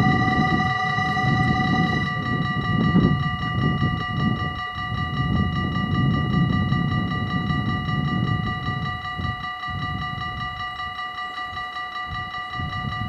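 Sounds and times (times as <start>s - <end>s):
level crossing warning bells: 0.0s - 13.0s.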